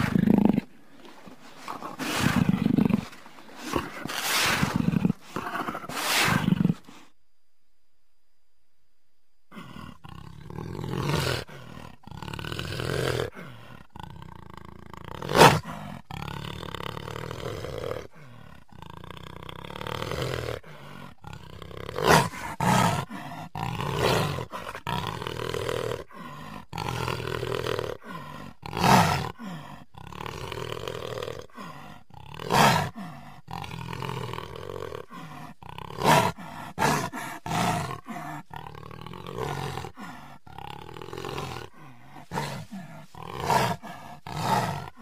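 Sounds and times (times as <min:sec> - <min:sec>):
jaguar roaring: 0:00.0 - 0:07.0, 0:09.5 - 0:45.0.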